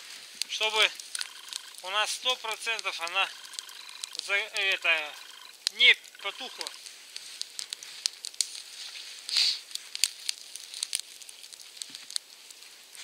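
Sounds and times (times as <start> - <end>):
fire hiss: 0.0 - 13.0
twig fire crackling: 0.0 - 13.0.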